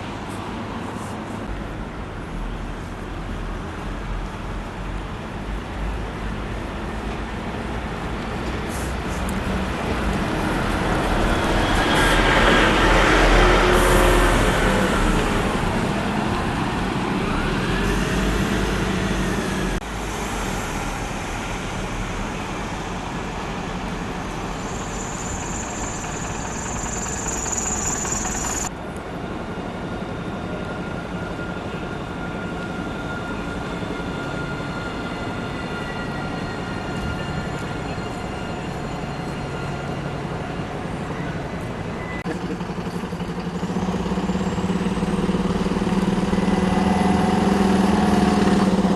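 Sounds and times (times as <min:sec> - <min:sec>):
public transport vehicles passing: 0:00.0 - 0:48.9.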